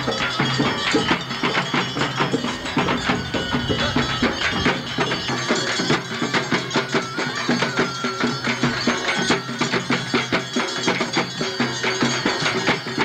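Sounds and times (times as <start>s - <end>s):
fast drum-led music: 0.0s - 13.0s.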